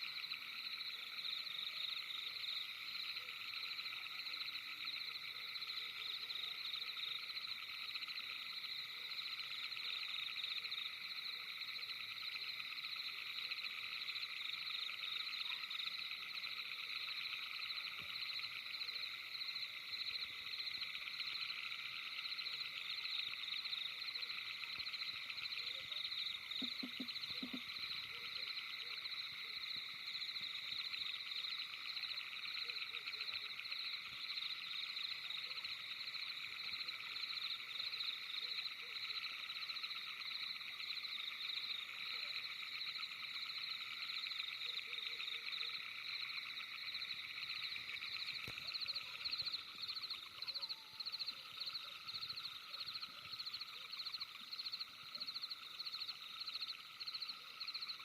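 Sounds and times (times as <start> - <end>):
frogs trilling: 0.0 - 58.0
insects trilling: 0.0 - 58.0.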